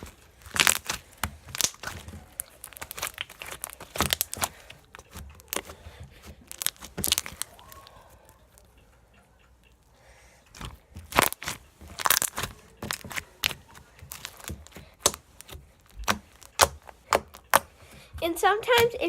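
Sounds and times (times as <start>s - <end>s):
slime popping and crackling: 0.0s - 8.7s, 10.5s - 19.0s.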